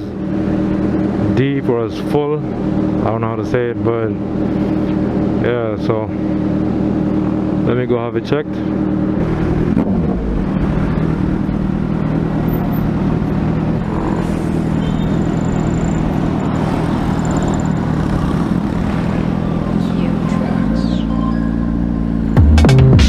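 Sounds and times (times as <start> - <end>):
car engine and exhaust running: 0.0 - 23.0
road noise: 0.0 - 23.0.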